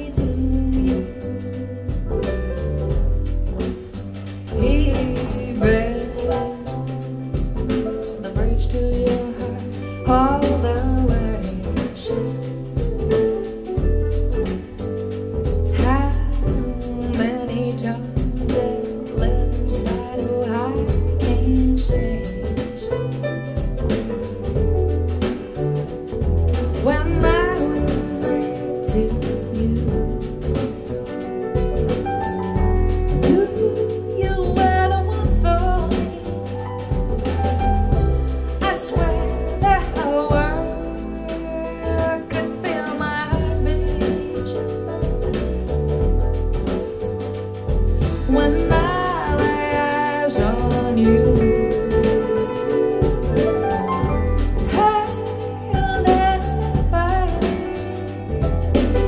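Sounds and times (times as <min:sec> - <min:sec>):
jazz-pop song through speakers: 0:00.0 - 0:59.0.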